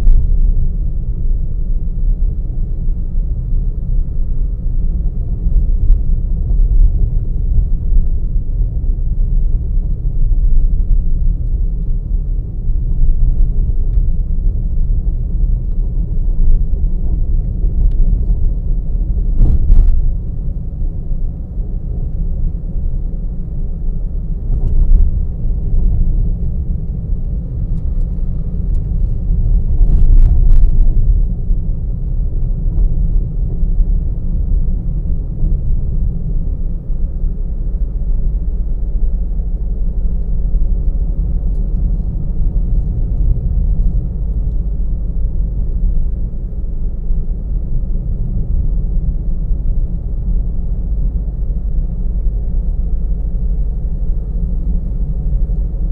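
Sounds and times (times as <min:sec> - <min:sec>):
road and engine rumble: 0:00.0 - 0:55.9.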